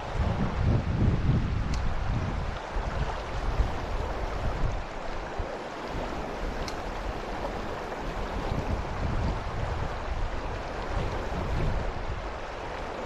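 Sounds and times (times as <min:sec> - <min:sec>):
fast river current rushing: 0:00.0 - 0:13.0
wind buffeting microphone: 0:00.0 - 0:13.0.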